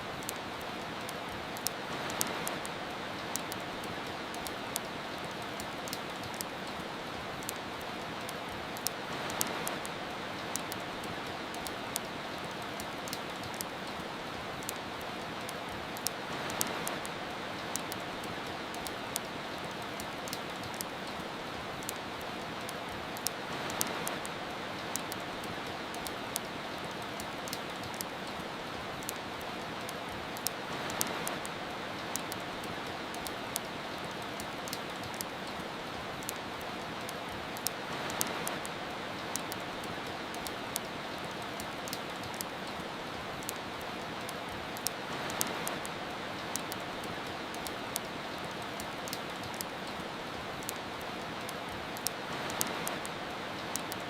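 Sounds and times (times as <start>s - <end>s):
steady rain hiss: 0.0s - 54.0s
wood fire crackling: 0.1s - 54.0s.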